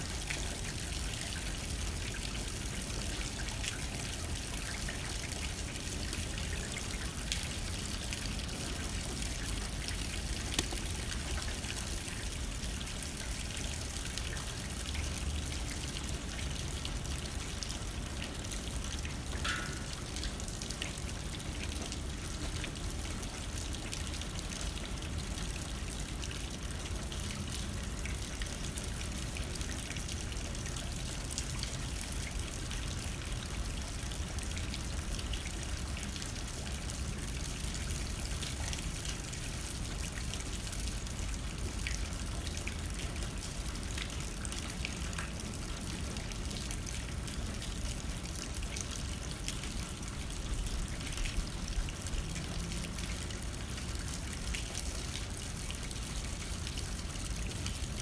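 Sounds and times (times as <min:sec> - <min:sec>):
rain pattering on window: 0:00.0 - 0:58.0.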